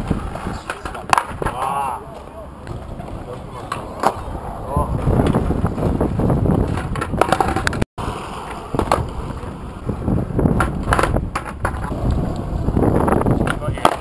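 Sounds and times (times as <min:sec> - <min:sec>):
skateboard clacks: 0:00.0 - 0:14.0
skateboard wheels rolling on asphalt: 0:00.0 - 0:14.0.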